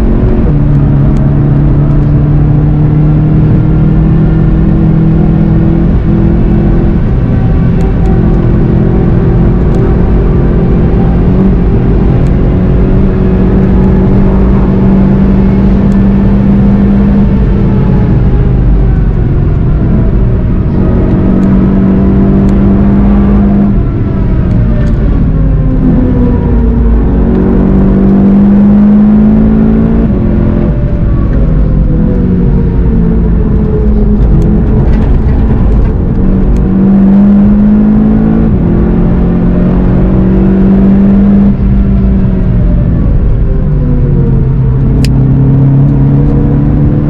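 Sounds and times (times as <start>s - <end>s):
car engine at high speed: 0.0s - 47.0s.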